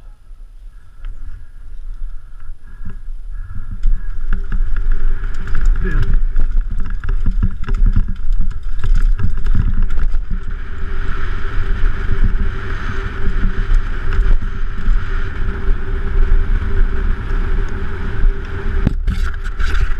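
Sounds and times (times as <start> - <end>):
bike rattling on rough ground: 0.0 - 19.9
wind buffeting the microphone: 0.0 - 19.9.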